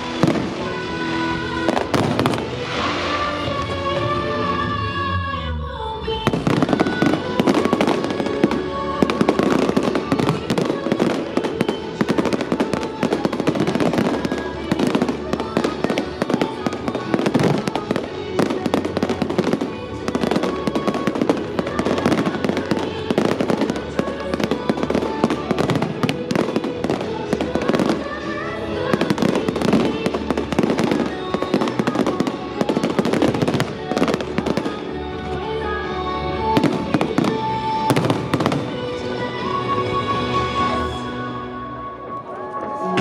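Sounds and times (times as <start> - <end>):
fireworks bangs and crackles: 0.0 - 4.2, 6.2 - 40.9
loud music: 0.0 - 43.0.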